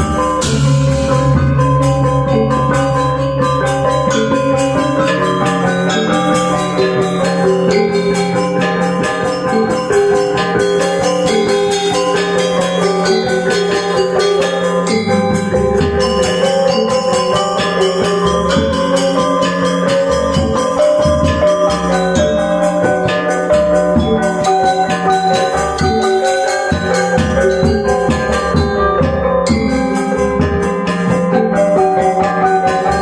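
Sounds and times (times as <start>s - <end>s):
gamelan ensemble playing: 0.0s - 33.0s.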